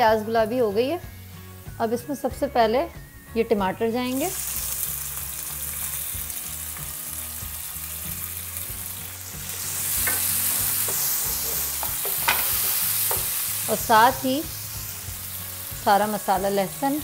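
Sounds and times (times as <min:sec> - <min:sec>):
tomatoes sizzling in hot oil: 0:00.0 - 0:03.0, 0:03.6 - 0:17.0.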